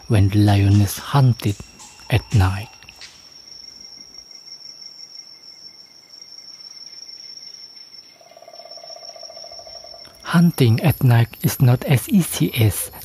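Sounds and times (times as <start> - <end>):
crickets chirring: 0.0 - 13.0
lower pulsing insect trill: 0.0 - 13.0.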